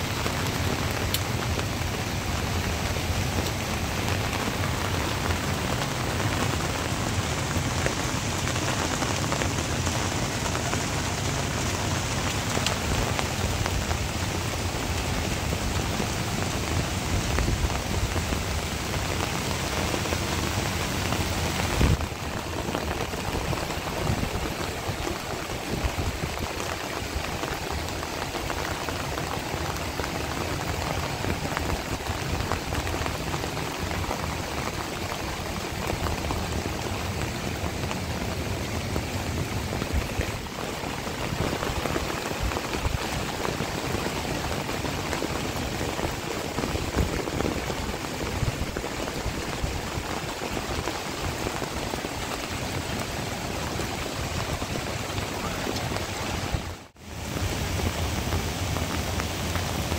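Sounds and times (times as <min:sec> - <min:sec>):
rain on plastic sheeting: 0:00.0 - 0:59.9
rain on wet ground: 0:00.0 - 0:59.9.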